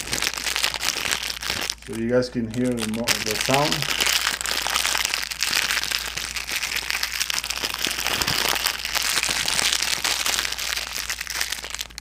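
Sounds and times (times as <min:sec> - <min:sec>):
bag crinkling near microphone: 0:00.0 - 0:12.0.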